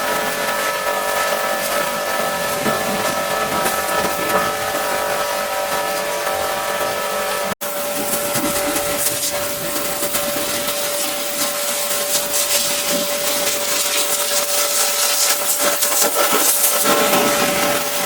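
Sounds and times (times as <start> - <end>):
pressure washer motor whine: 0.0 - 18.0
water jet hissing: 0.0 - 18.0.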